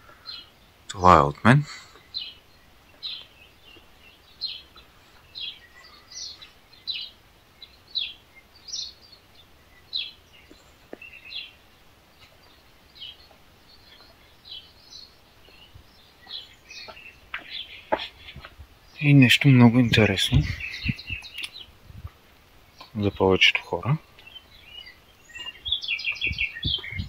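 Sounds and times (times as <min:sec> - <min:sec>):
bird chirping: 0:00.0 - 0:27.0
faint outdoor background noise: 0:00.0 - 0:27.0.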